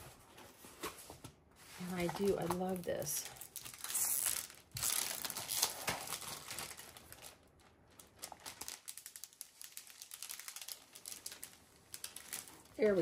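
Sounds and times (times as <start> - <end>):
plastic film crinkling: 1.7 - 13.0.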